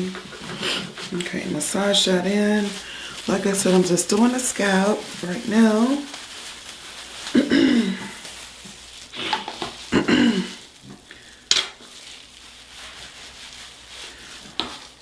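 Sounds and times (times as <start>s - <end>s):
wet squishing of hair massaging: 0.0s - 15.0s.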